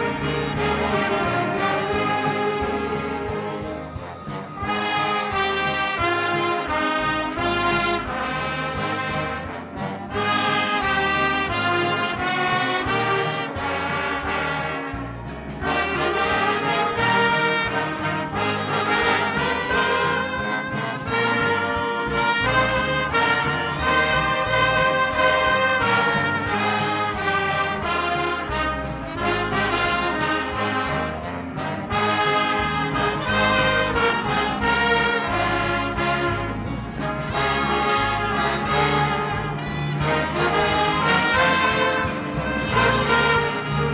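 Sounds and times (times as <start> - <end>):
brass ensemble playing chords: 0.0 - 43.9.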